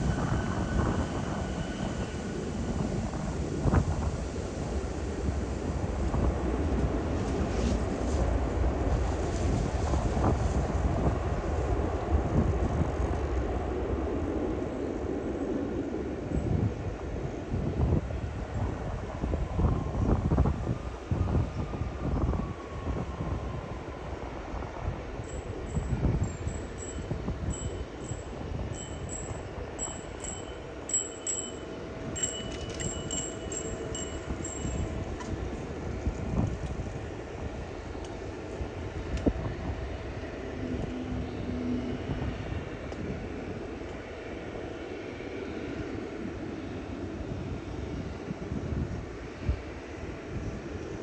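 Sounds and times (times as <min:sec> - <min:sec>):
airliner engines rumbling: 0:00.0 - 0:51.0.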